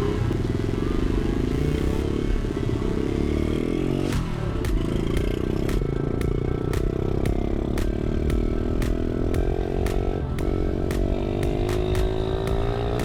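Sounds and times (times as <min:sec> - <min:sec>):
small motorbike engine accelerating: 0:00.0 - 0:13.0.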